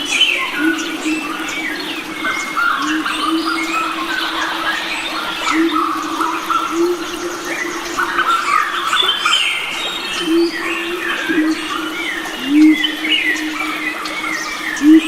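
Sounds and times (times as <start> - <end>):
forest birds singing: 0.0 - 15.0
low steady swelling note: 0.0 - 15.0.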